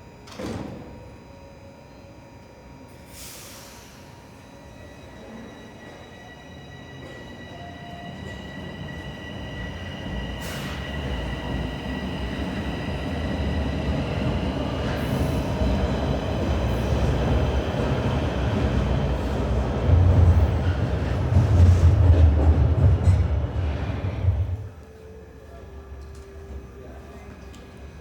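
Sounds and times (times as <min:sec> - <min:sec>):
subway train rumbling: 0:00.0 - 0:28.0.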